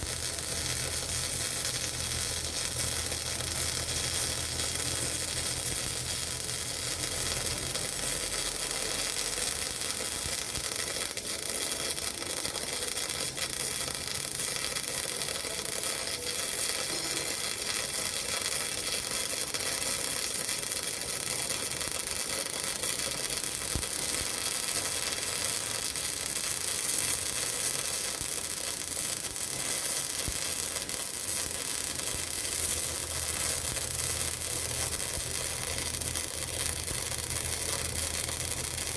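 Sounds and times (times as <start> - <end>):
welding arc sizzling hiss: 0.0 - 38.9.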